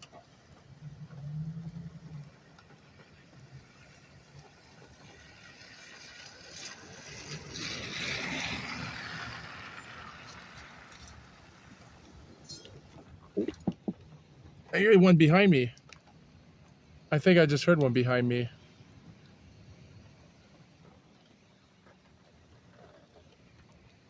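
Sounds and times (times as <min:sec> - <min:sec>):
vehicle tyres passing: 0:00.0 - 0:24.0.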